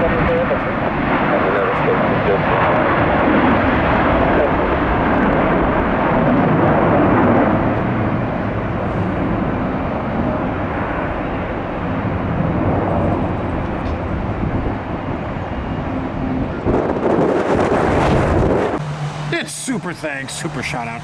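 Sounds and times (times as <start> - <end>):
wind buffeting microphone: 0.0 - 19.3
jet engines roaring: 0.0 - 21.0.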